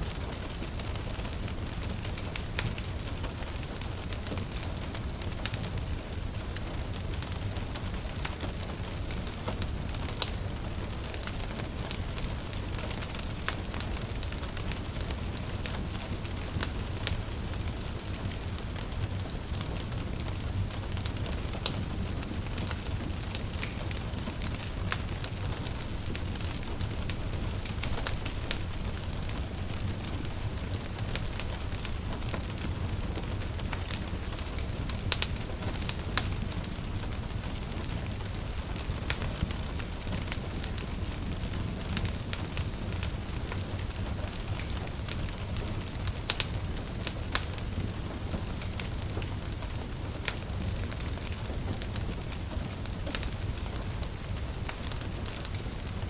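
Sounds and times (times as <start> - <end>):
gentle rain falling: 0.0 - 56.0
wood fire crackling and popping: 0.0 - 56.0.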